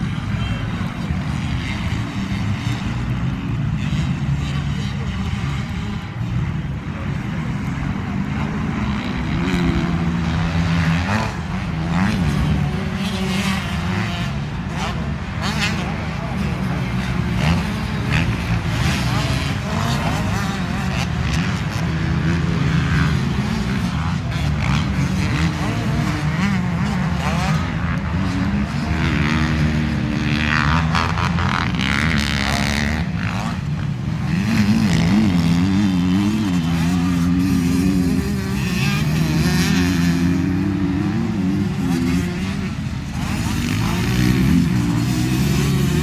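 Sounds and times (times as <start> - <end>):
motocross motorcycle engines revving: 0.0 - 46.0.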